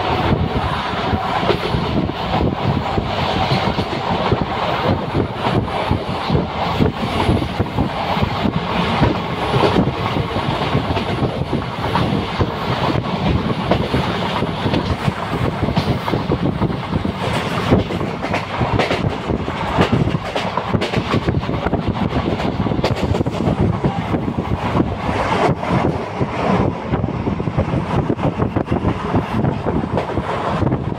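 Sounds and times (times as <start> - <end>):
train wheels rumbling and rattling: 0.0 - 30.9.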